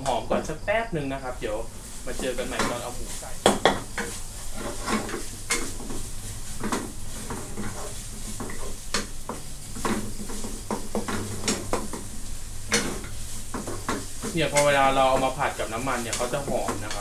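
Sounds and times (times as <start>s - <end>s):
oil sizzling: 0.0s - 17.0s
wooden spatula scraping a wok: 1.6s - 17.0s.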